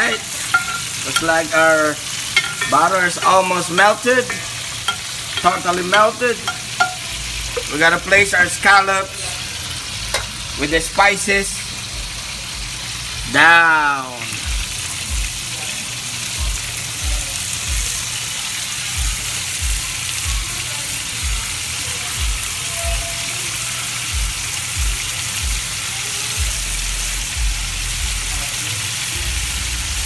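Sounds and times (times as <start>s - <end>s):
scallops sizzling in butter: 0.0s - 30.0s.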